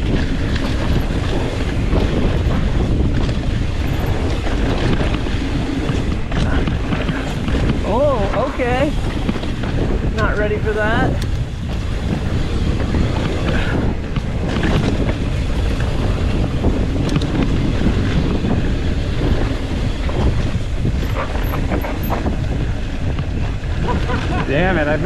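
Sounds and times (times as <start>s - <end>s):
bike knocking and rattling: 0.0s - 25.0s
bike tyres rumbling on dirt: 0.0s - 25.0s
wind buffeting microphone: 0.0s - 25.0s.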